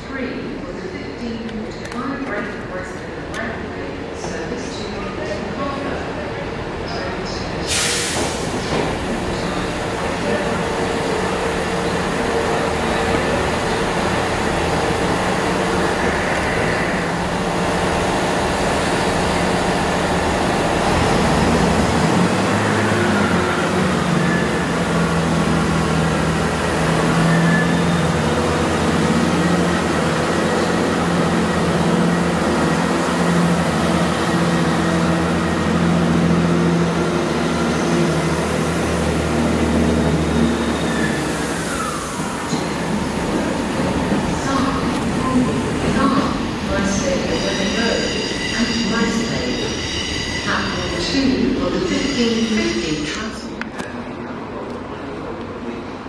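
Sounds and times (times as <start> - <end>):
diesel train engines droning: 0.0 - 56.0.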